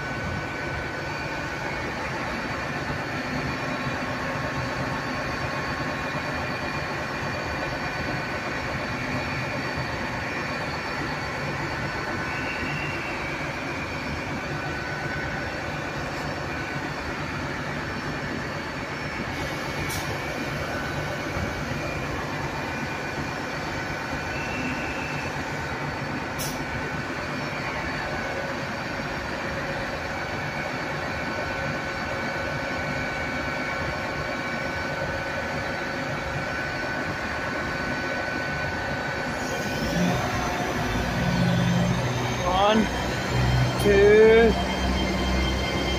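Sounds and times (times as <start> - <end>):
train engine hum: 0.0 - 45.9.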